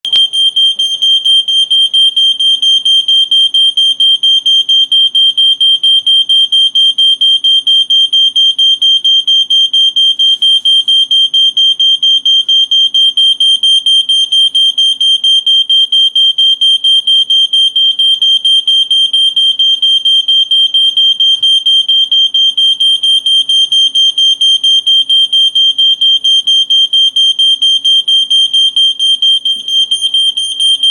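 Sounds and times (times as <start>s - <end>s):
smoke alarm beeping: 0.0s - 30.9s.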